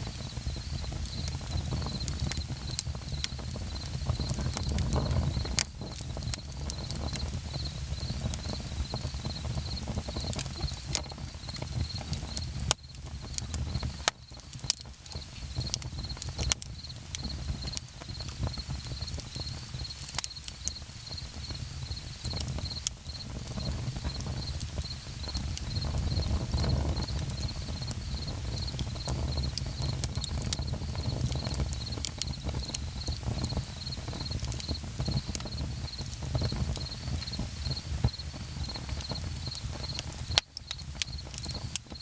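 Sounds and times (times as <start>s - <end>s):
campfire crackling and popping: 0.0s - 42.0s
crickets chirping: 0.0s - 42.0s.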